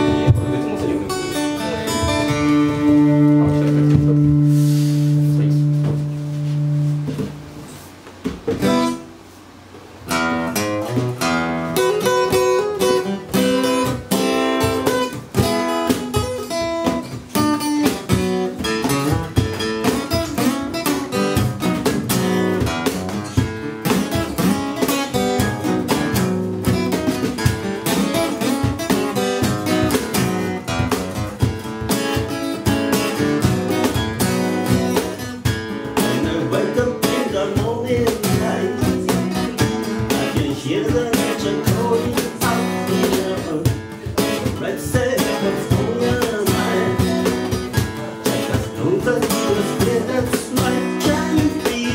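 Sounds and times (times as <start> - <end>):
acoustic guitar strumming: 0.0 - 51.9
cajon hand strokes: 0.0 - 51.9.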